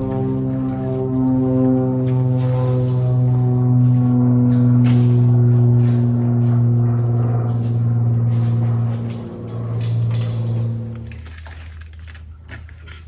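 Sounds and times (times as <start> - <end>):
low drone music: 0.0 - 13.0.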